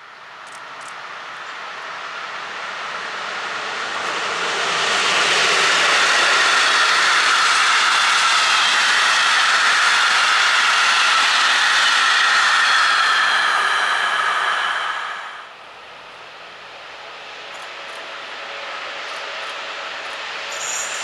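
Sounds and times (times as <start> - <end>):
train wheels rushing on rails: 0.0 - 21.0.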